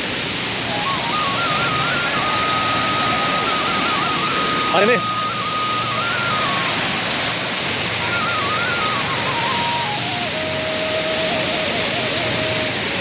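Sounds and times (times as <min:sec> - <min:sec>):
waterfall rushing: 0:00.0 - 0:13.0
thin whistle-like melody: 0:00.5 - 0:13.0.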